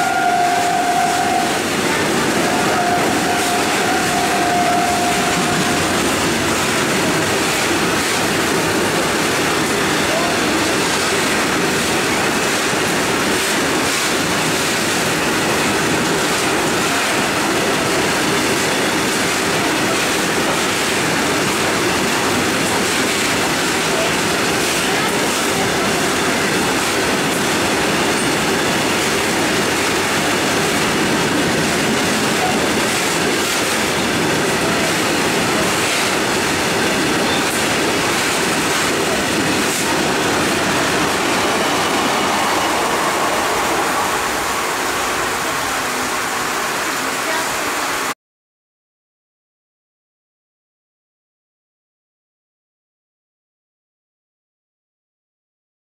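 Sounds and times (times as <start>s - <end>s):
train wheels rumbling and rattling: 0.0s - 48.1s.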